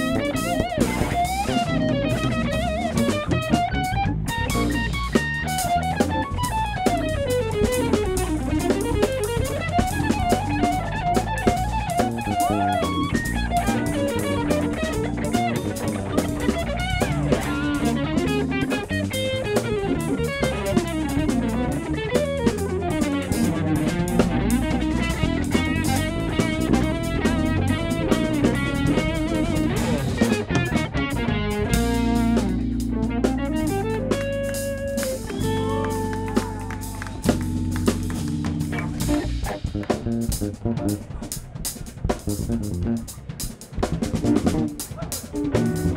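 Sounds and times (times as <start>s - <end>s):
drum kit: 0.0s - 45.9s
electric guitar lead: 0.0s - 45.9s.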